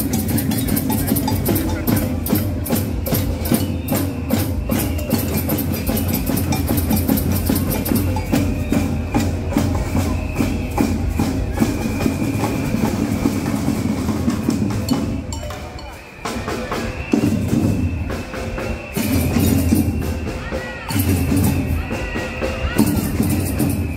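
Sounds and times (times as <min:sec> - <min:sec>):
band music with percussion beat: 0:00.0 - 0:23.9.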